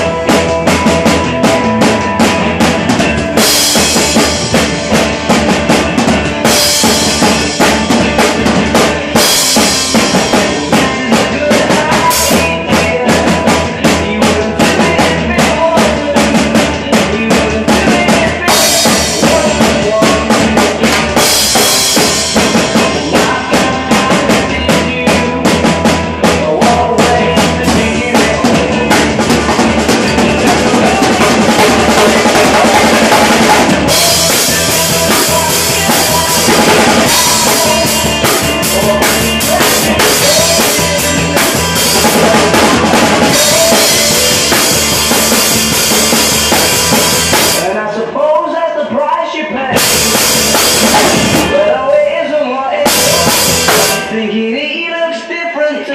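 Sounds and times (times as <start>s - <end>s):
drum kit playing rock beat: 0.0s - 47.8s, 49.7s - 54.3s.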